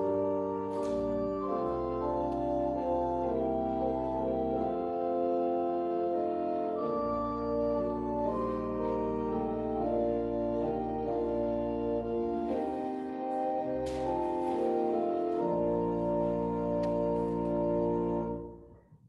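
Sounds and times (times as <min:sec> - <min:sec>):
pipe organ playing slow chords: 0:00.0 - 0:18.7.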